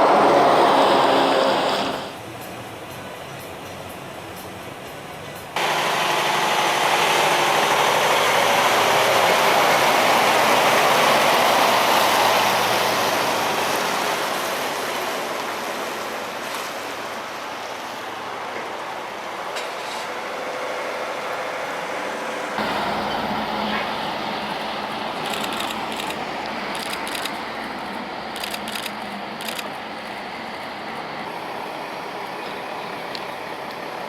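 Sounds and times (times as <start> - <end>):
large vehicle passing by: 0.0 - 2.3, 5.6 - 18.2, 19.5 - 34.0.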